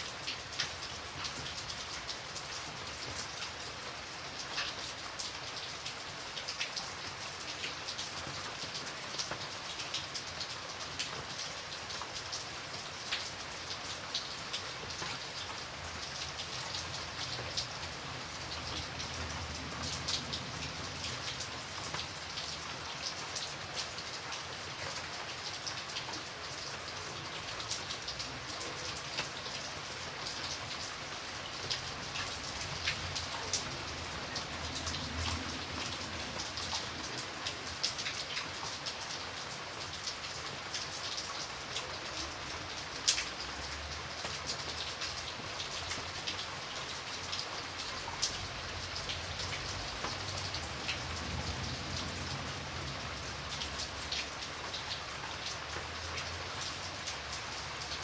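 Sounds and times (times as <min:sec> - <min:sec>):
steady rain falling: 0:00.0 - 0:58.0
raindrops ticking: 0:00.1 - 0:58.0.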